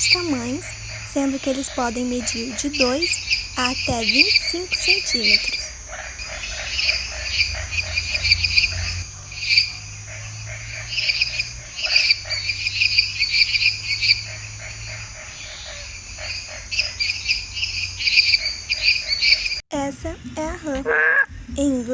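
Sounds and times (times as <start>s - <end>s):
toads trilling: 0.0s - 19.6s, 20.9s - 21.3s.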